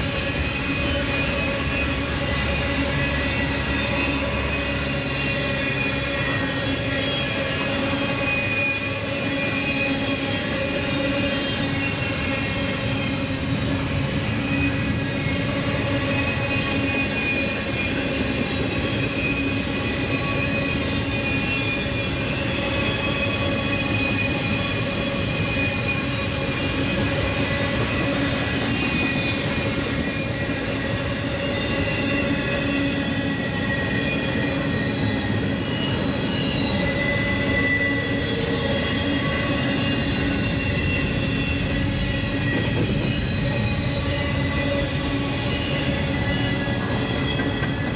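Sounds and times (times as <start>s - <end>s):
freight train wheels rumbling: 0.0s - 47.9s.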